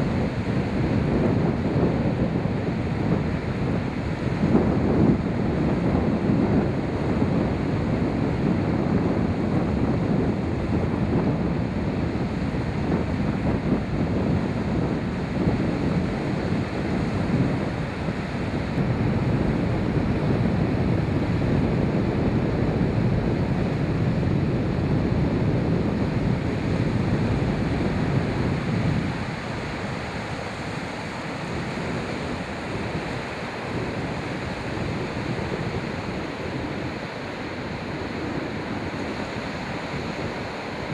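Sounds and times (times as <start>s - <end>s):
sea waves: 0.0s - 40.9s
wind rushing over microphone: 0.0s - 40.9s.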